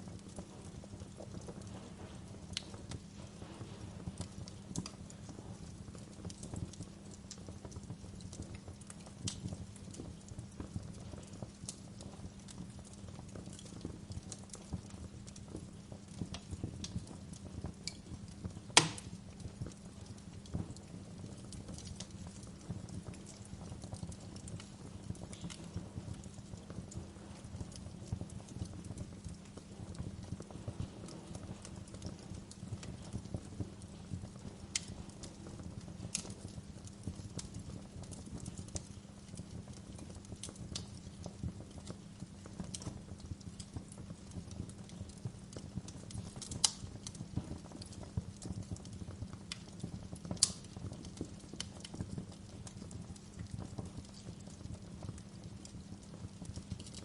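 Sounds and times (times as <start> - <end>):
wood fire crackling: 0.0 - 57.0
sharp fire pops: 0.2 - 54.5.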